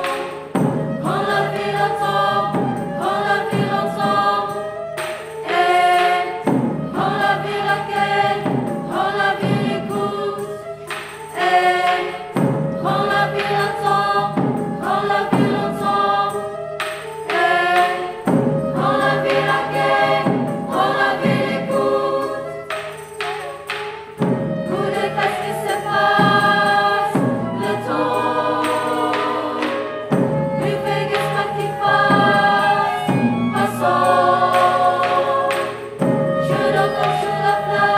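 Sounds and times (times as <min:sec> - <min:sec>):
choir singing: 0:00.0 - 0:37.9.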